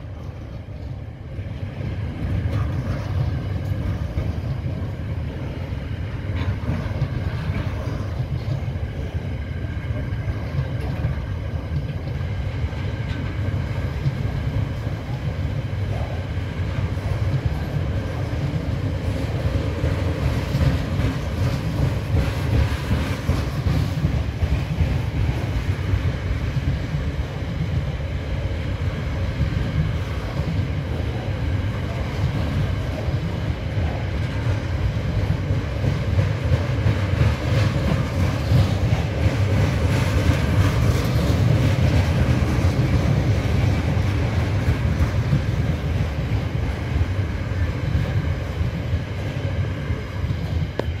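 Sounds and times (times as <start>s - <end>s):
freight train wheels rumbling and clacking: 0.0s - 51.0s.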